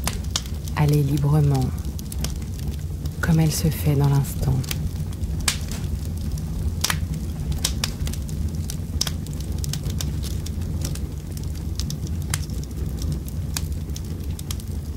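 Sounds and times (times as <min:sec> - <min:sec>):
fire low rumble: 0:00.0 - 0:14.9
wood fire crackling and popping: 0:00.0 - 0:14.9.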